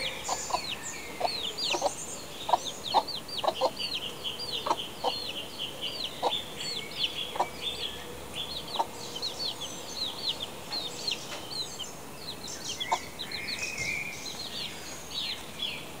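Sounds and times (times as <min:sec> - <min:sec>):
chicks peeping: 0:00.0 - 0:15.8.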